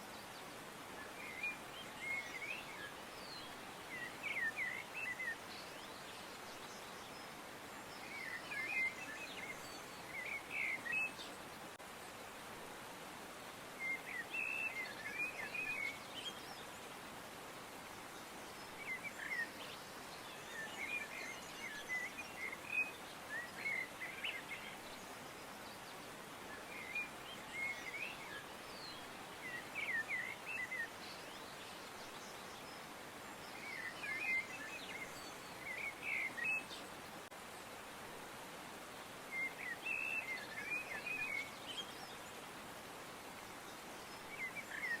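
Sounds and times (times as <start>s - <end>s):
soft background hiss: 0.0s - 45.0s
songbirds chirping: 0.0s - 45.0s.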